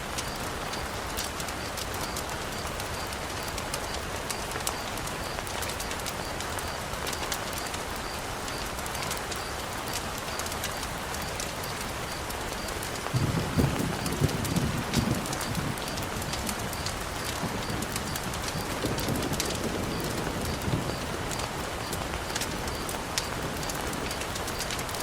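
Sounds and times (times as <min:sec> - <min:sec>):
heavy rain hiss: 0:00.0 - 0:25.0
sharp taps and crackles: 0:00.1 - 0:25.0.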